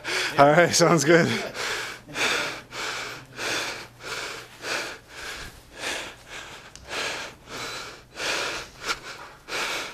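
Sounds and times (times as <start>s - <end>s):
heavy fast breathing: 0.0s - 0.5s, 1.1s - 9.9s.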